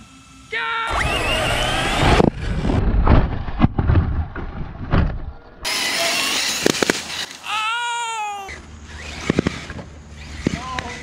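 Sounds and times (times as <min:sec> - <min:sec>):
rc car rumbling on grass: 0:00.9 - 0:07.5, 0:08.4 - 0:11.0.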